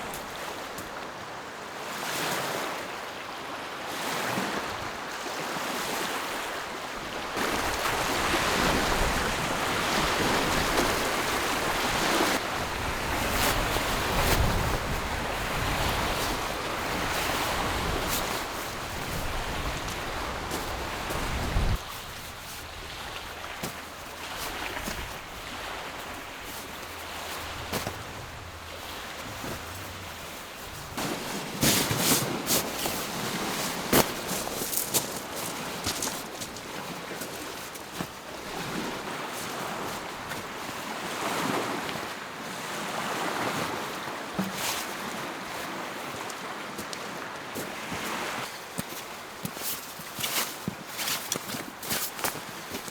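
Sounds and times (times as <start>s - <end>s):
small waves washing on shore: 0.0s - 52.9s.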